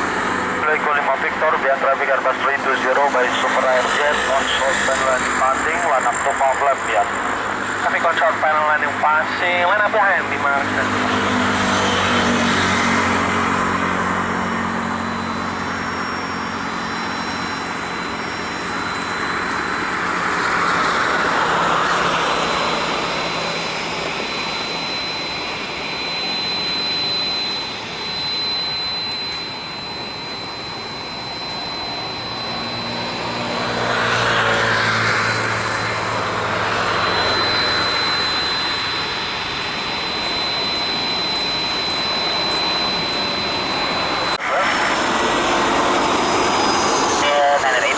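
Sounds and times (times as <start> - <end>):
jet airliner engines roaring: 0.0 - 47.9.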